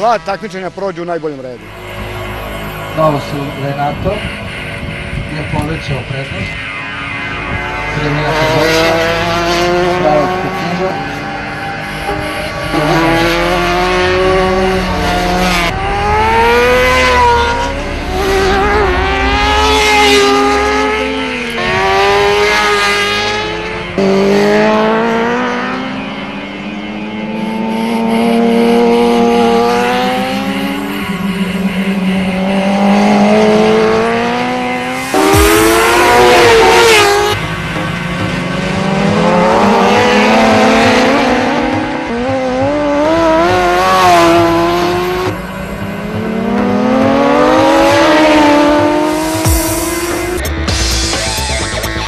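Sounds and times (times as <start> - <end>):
racing motorcycle engines revving: 0.0 - 52.0.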